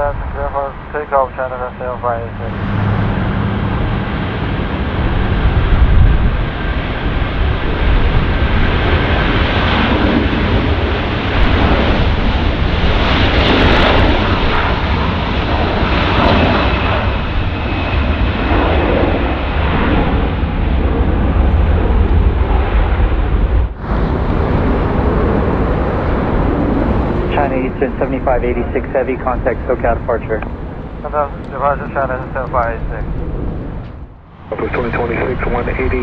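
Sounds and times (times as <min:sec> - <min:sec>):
jet engine rumble: 0:00.0 - 0:36.0.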